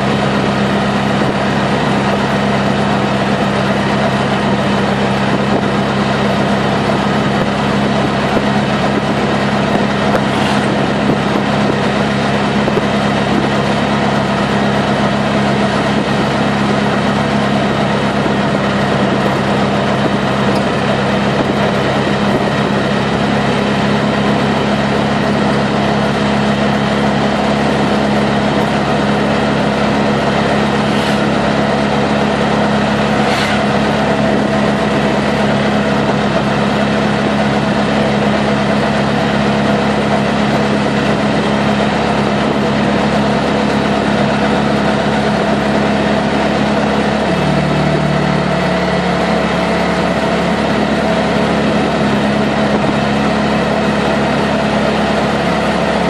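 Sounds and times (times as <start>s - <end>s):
road noise: 0.0s - 56.0s
small engine running: 0.0s - 56.0s.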